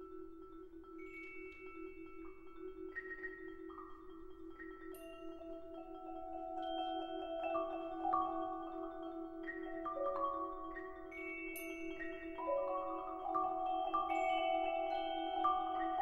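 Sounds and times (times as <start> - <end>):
bell-like mallet notes: 0.0 - 16.0.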